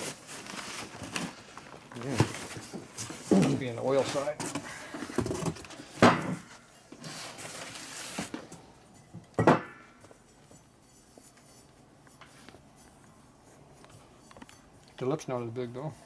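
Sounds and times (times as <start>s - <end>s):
scraping and rustling: 0.0s - 9.1s, 10.0s - 16.0s.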